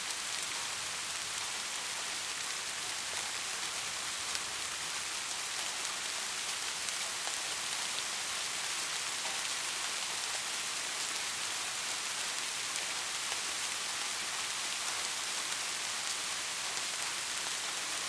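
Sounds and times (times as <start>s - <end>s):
soft rain falling: 0.0s - 18.0s.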